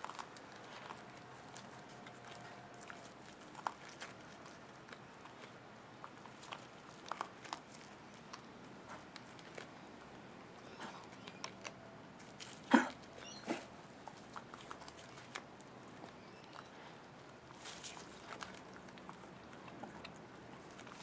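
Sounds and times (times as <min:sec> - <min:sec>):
animals chewing vegetables: 0:00.0 - 0:21.0.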